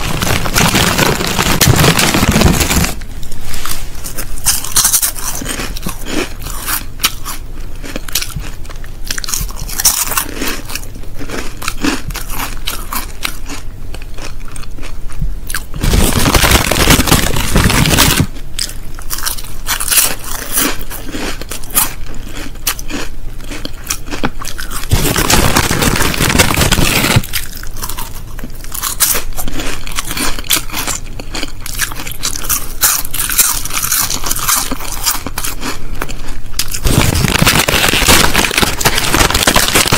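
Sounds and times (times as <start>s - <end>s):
crisps being chewed: 0.0s - 39.9s.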